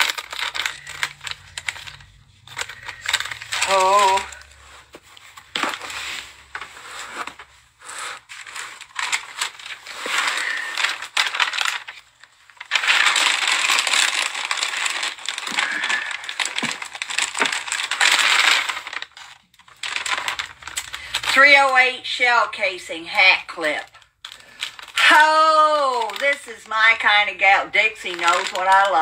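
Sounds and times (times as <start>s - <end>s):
packaging rustling and crinkling: 0.0s - 22.0s, 23.1s - 29.0s.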